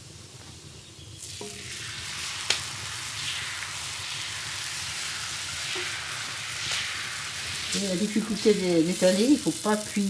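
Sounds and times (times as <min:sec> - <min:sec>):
griddle sizzling: 0:00.0 - 0:10.0.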